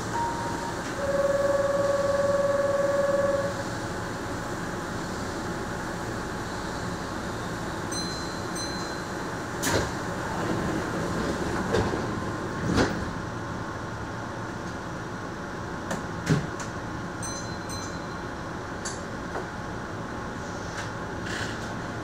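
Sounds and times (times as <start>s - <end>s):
train humming: 0.0s - 22.0s.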